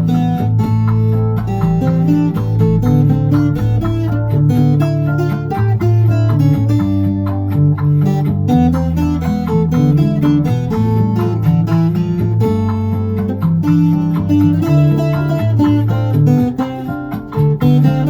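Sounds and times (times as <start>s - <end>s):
backing track with bass: 0.0s - 18.0s
plucked string instrument notes: 0.0s - 18.0s.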